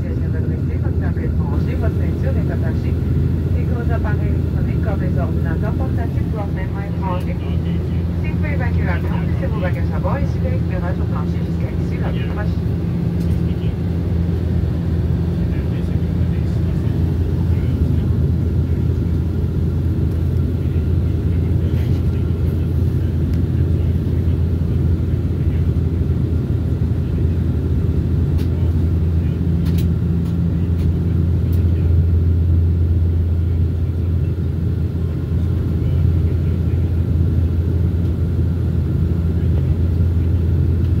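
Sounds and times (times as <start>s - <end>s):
faint steady whine: 0.0s - 41.0s
turboprop engines droning in cabin: 0.0s - 41.0s.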